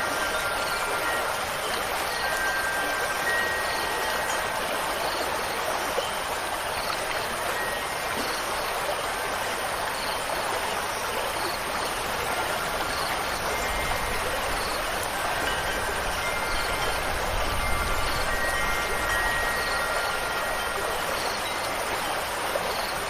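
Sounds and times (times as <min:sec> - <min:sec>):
faint wind chime tones: 0:00.0 - 0:23.0
stream rushing water: 0:00.0 - 0:23.0.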